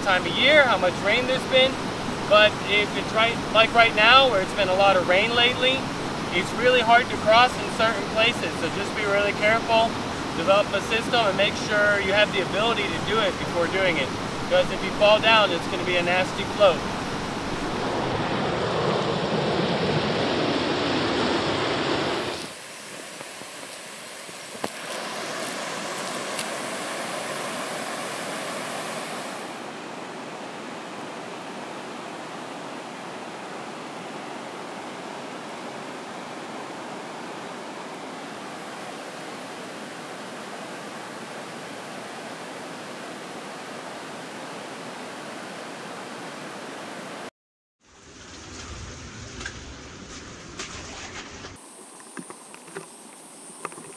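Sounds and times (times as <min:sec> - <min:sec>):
river rushing over boulders: 0:00.0 - 0:47.3.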